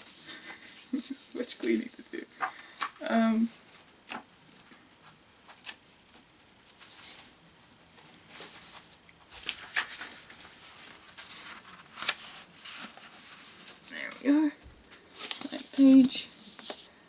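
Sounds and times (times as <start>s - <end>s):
book pages rustling: 0.0s - 3.1s, 3.7s - 16.9s.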